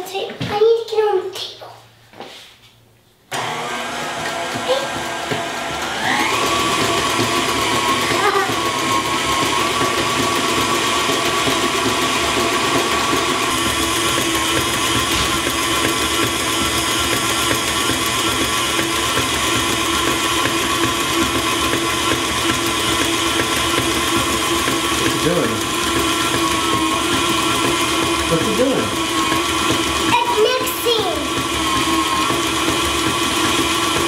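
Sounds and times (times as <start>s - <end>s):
stand mixer motor whine: 3.3s - 34.0s.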